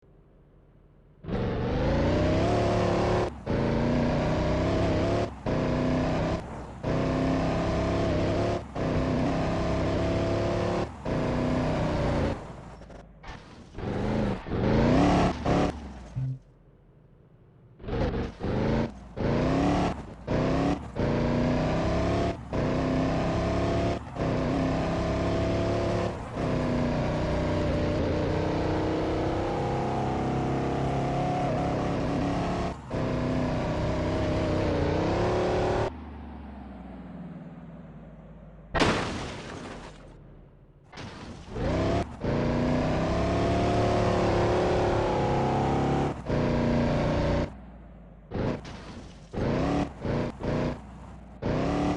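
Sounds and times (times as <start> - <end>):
diesel engine revving: 1.2 - 13.0, 13.7 - 16.4, 17.8 - 38.9, 41.5 - 51.9.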